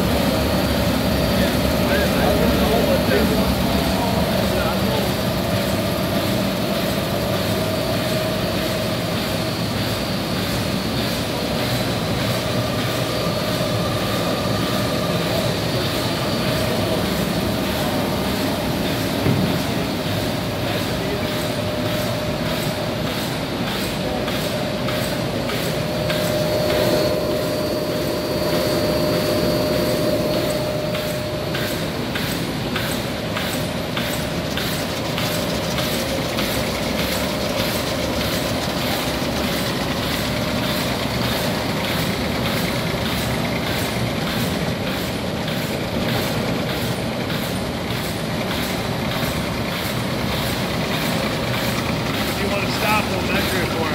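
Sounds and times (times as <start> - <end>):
machine whir with whine: 0.0 - 53.9.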